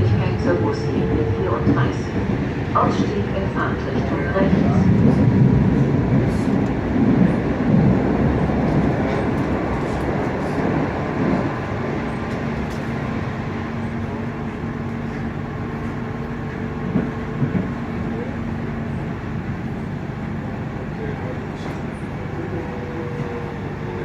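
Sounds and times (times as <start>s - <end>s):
train car rumble: 0.0s - 24.0s.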